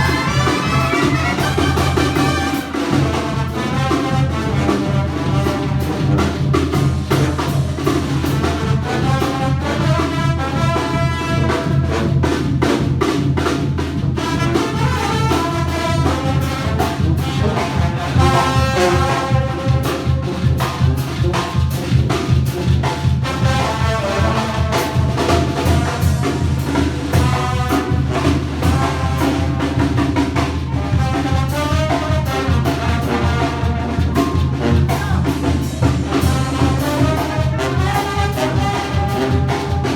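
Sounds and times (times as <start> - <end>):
trumpets and trombones melody: 0.0 - 12.8, 14.2 - 39.9
driving drums: 0.0 - 39.9.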